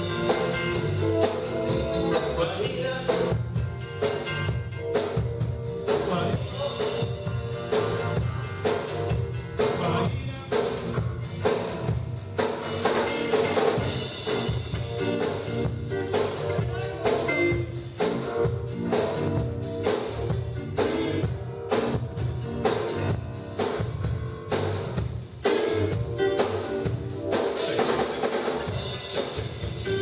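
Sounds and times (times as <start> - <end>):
drum kit beat: 0.0 - 30.0
live band playing: 0.0 - 30.0.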